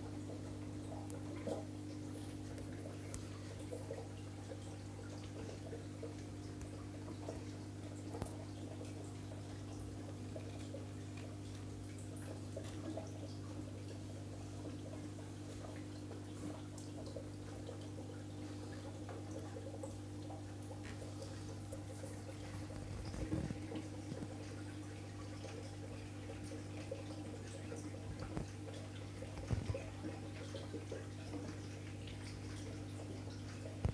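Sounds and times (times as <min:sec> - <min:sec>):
aquarium equipment humming: 0:00.0 - 0:33.9
water trickling and dripping: 0:00.0 - 0:33.9.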